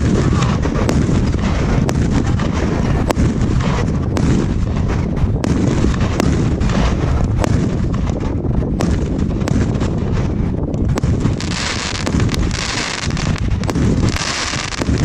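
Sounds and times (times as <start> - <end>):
firework cake volley bangs: 0.0 - 15.0
sharp firework cracks: 0.0 - 15.0.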